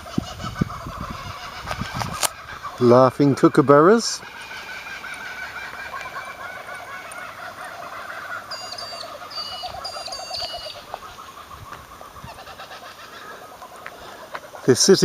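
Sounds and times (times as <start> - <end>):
kookaburras cackling: 0.0 - 15.0.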